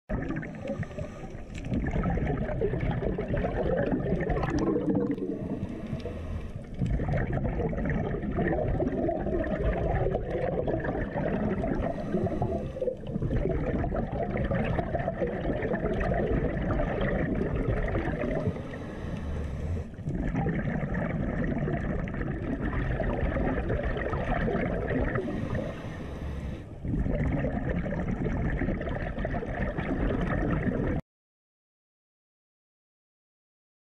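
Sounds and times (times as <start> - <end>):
underwater exhaled air bubbles: 0.1 - 31.0.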